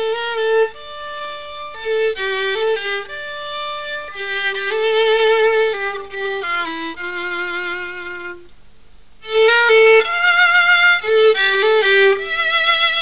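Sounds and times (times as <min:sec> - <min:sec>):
solo violin melody: 0:00.0 - 0:08.6, 0:09.2 - 0:13.0.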